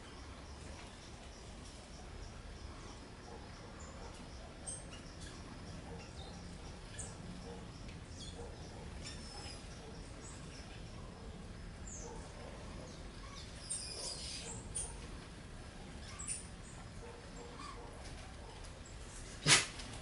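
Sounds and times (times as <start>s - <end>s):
faint steady low hum: 0.0s - 20.0s
small birds chirping: 0.0s - 20.0s.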